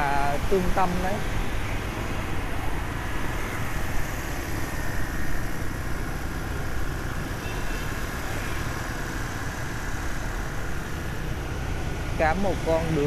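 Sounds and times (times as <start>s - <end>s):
other motorbikes in traffic: 0.0s - 13.0s.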